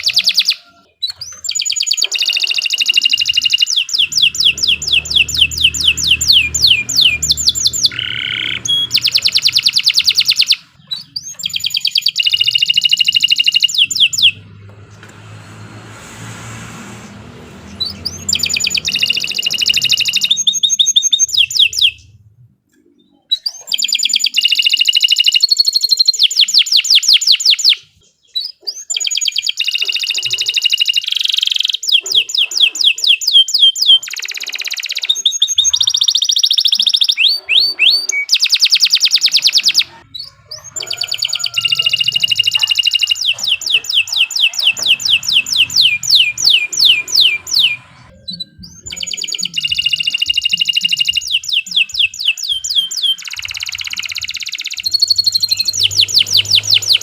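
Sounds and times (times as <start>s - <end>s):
canary singing trills: 0.0s - 15.6s, 17.0s - 57.0s.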